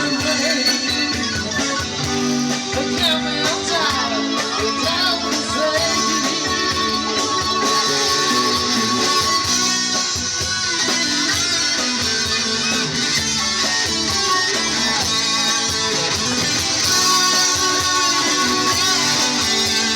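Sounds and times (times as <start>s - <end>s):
lead guitar with bending notes: 0.0s - 19.9s
strummed rock guitar: 0.0s - 19.9s.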